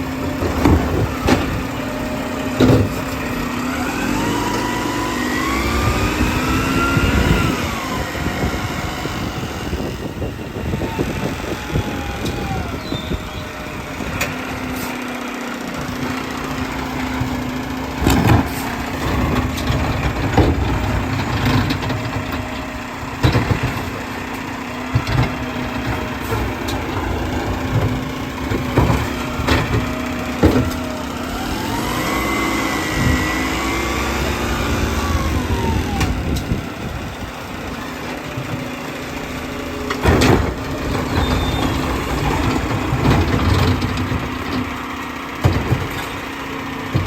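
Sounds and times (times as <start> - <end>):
garbage truck engine running: 0.0 - 47.0
loud clanks and bangs: 0.2 - 10.4, 15.8 - 37.1, 39.6 - 47.0.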